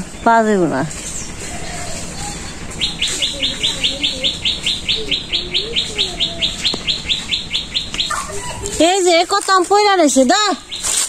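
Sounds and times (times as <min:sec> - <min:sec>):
bird chirping rapidly: 0:00.0 - 0:11.0.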